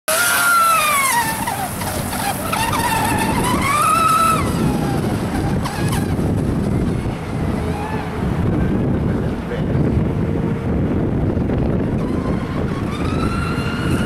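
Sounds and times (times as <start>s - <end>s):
toy speedboat motor whine: 0.1s - 8.9s, 11.3s - 14.0s.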